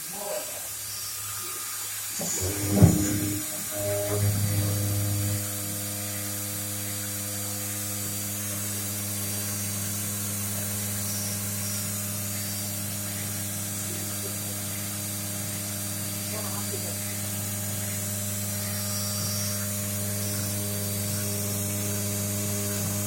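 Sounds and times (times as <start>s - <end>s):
machine motor hum with hiss: 0.0s - 23.0s.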